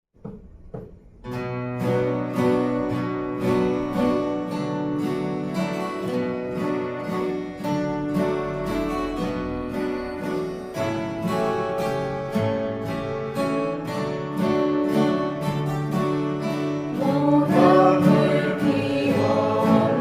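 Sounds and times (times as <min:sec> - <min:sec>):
acoustic guitars strumming chords: 0:00.2 - 0:20.0.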